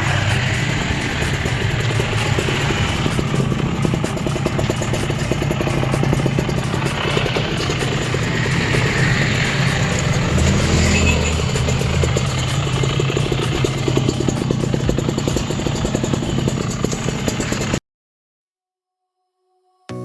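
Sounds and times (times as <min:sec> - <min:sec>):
two-stroke engine running: 0:00.0 - 0:17.8.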